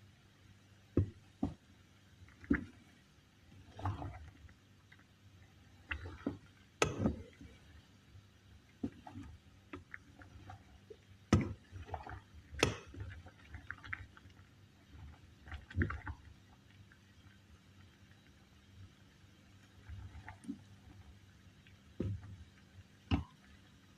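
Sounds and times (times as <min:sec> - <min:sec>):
faint liquid sounds: 0:00.0 - 0:23.9.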